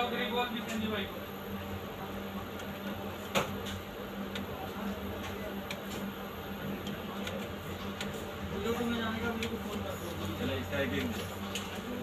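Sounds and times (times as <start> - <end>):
copier humming: 0.0 - 12.0.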